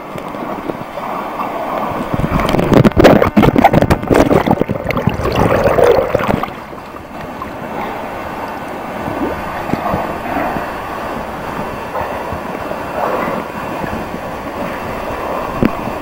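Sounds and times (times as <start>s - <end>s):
water splashing beside kayak: 0.0s - 16.0s
wind: 0.0s - 16.0s.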